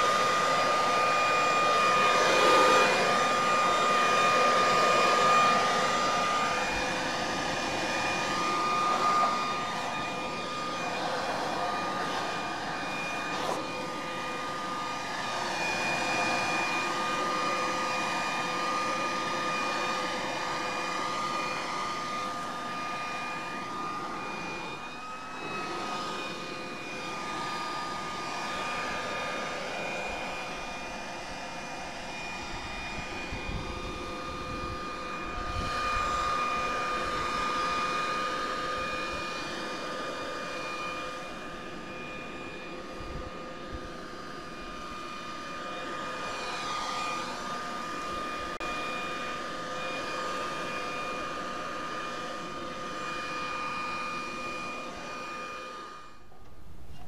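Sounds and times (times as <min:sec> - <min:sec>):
leaf blower running: 0:00.0 - 0:57.0.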